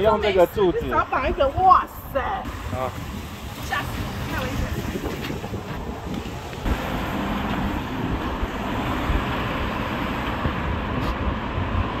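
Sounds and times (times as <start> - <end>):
gusty wind buffeting microphone: 0.0 - 12.0.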